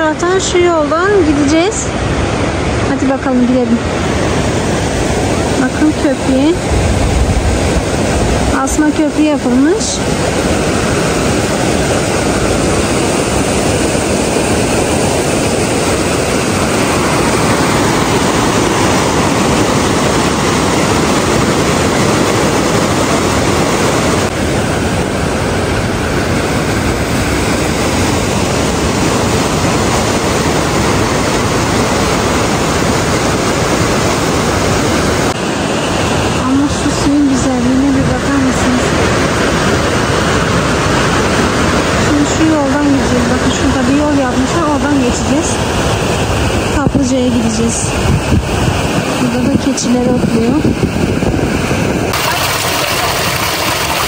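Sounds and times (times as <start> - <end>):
river rushing over rocks: 0.0 - 46.8, 52.1 - 54.0.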